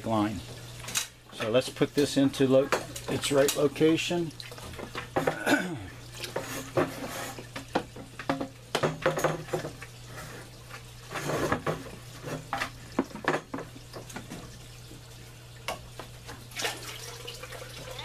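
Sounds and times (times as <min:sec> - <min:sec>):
running water: 0:00.0 - 0:18.0.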